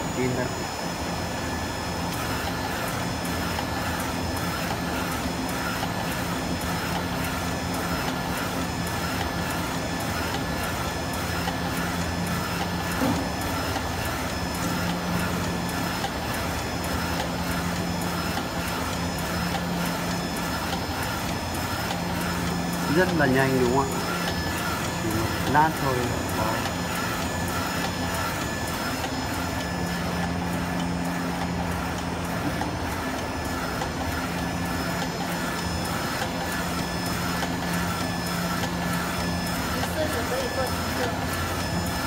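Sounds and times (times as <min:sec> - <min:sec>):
printer machine hum: 0:00.0 - 0:42.0
printer carriage ticking: 0:02.2 - 0:42.0.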